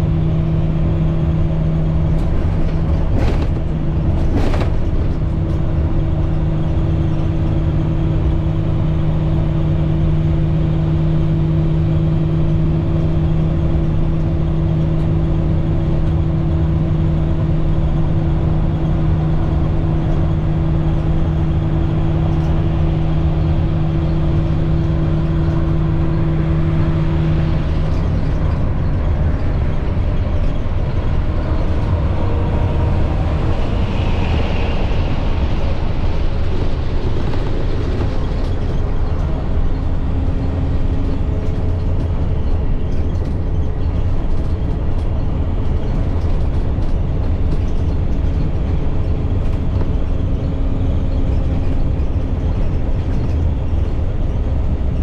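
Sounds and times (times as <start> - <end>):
diesel bus engine rumble: 0.0 - 55.0
road noise inside bus: 0.0 - 55.0
steady drone: 5.1 - 55.0.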